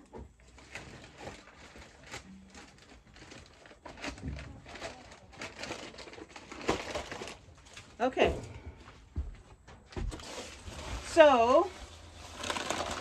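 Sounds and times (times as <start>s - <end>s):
feed bag rustling: 0.4s - 8.1s, 10.1s - 13.0s.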